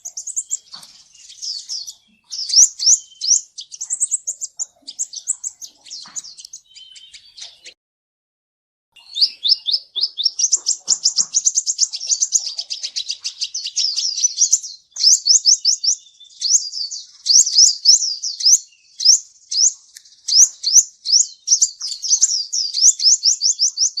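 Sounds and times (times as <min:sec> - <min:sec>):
bird chirping and trilling: 0:00.0 - 0:07.8, 0:09.0 - 0:24.0.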